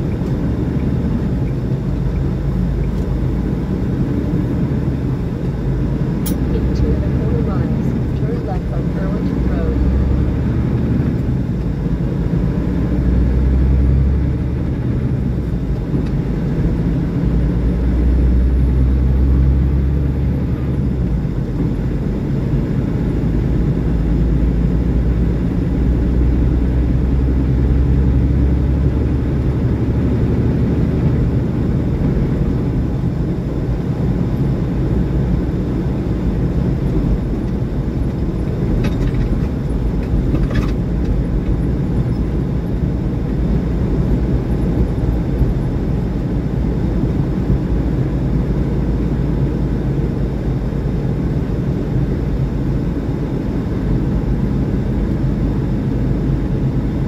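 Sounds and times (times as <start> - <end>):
diesel truck engine drone: 0.0 - 57.0
tyre and road noise: 0.0 - 57.0.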